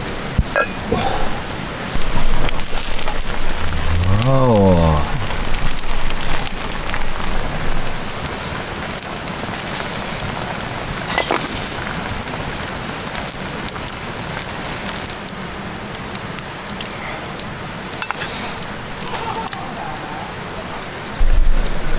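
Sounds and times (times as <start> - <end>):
food sizzling: 0.0 - 21.9.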